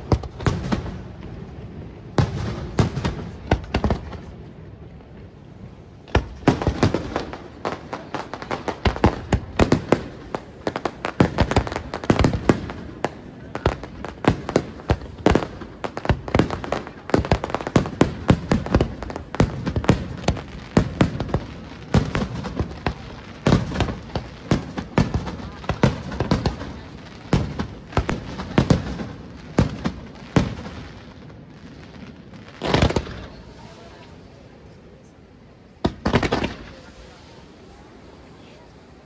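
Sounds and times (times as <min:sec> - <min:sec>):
fireworks bangs: 0:00.0 - 0:39.0.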